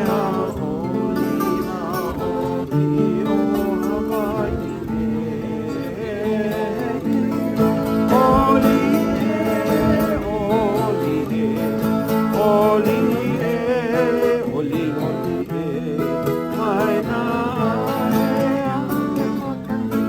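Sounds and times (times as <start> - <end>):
acoustic guitar plucking: 0.0 - 20.0
person singing with vibrato: 0.0 - 20.0.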